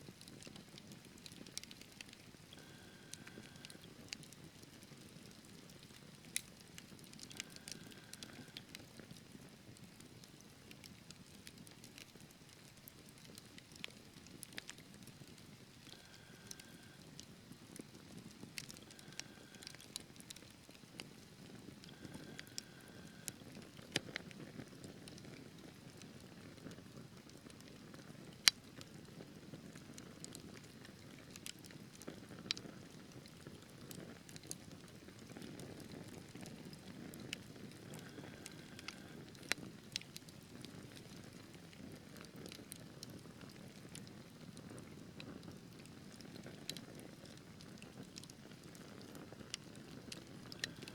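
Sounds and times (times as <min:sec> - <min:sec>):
wood fire crackling: 0:00.1 - 0:50.9.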